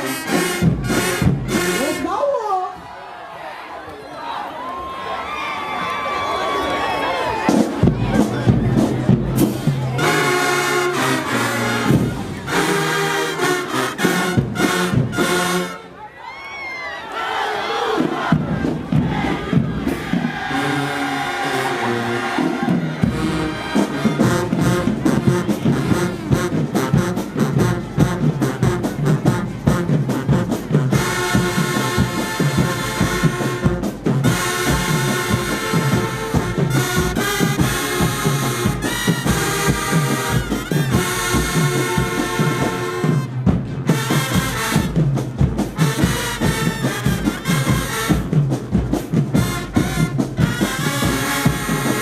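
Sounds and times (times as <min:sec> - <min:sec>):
brass horns: 0:00.0 - 0:02.2, 0:07.4 - 0:16.1, 0:17.2 - 0:52.0
drumline: 0:00.0 - 0:02.8, 0:06.2 - 0:52.0.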